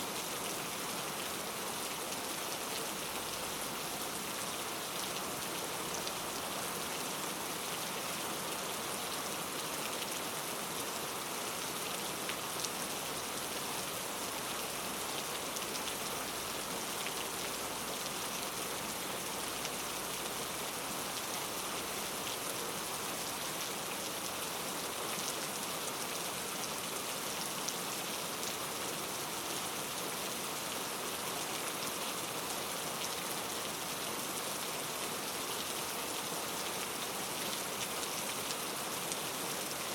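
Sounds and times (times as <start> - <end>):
rain hissing on a surface: 0.0 - 39.9.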